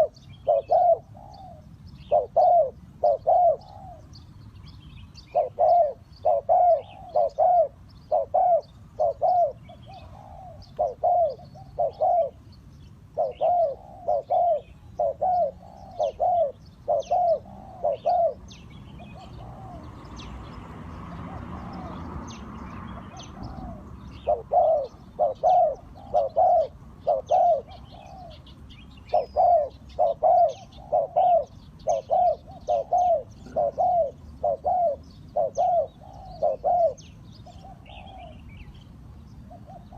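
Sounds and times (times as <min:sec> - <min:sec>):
dove cooing: 0:00.0 - 0:04.3, 0:05.2 - 0:20.2, 0:21.1 - 0:22.2, 0:22.8 - 0:38.8, 0:39.4 - 0:39.9
small birds chirping: 0:00.0 - 0:39.9.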